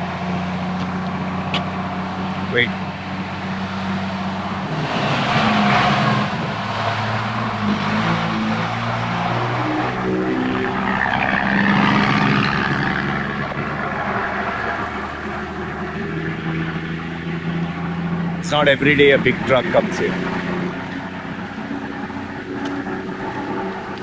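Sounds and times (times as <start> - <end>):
truck driving past: 0.0 - 24.0.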